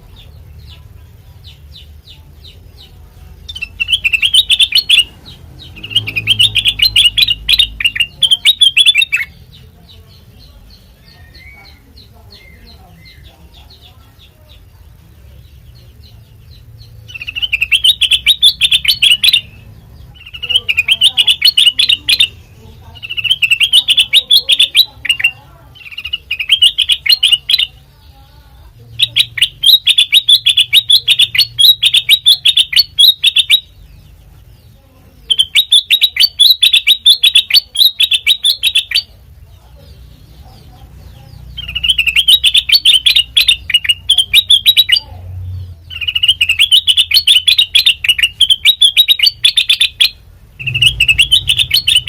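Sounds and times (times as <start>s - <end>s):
bird chattering chirps: 0.0s - 52.0s.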